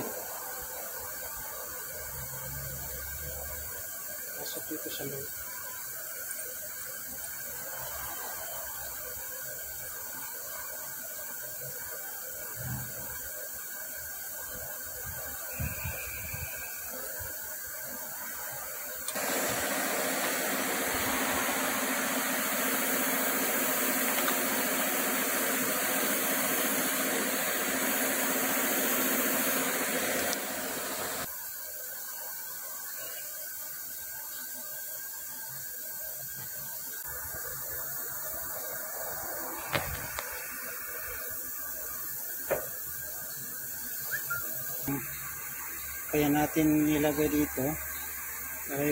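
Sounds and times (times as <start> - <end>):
workshop machine hum and hiss: 0.0 - 48.9.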